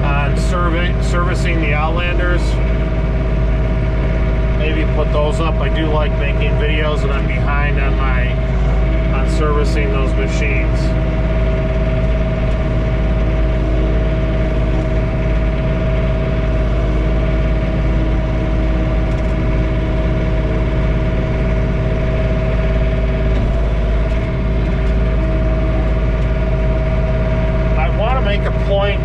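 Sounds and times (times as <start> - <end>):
steady whine: 0.0 - 29.0
tractor diesel engine running: 0.0 - 29.0.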